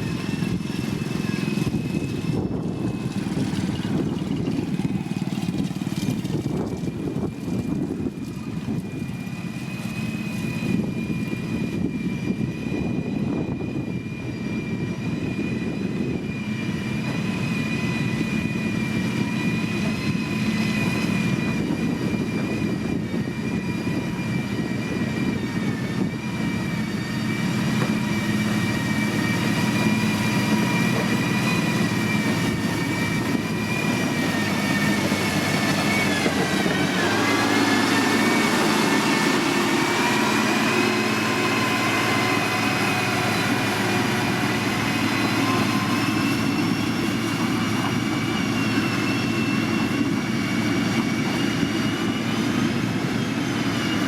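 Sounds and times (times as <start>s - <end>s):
diesel machine engine rumble: 0.0s - 54.0s
high steady machine whine: 0.0s - 54.0s.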